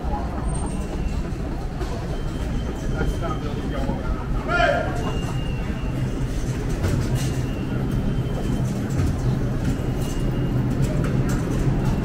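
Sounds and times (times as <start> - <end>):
faint crowd noise: 0.0 - 12.0
train rumbling: 0.0 - 12.0.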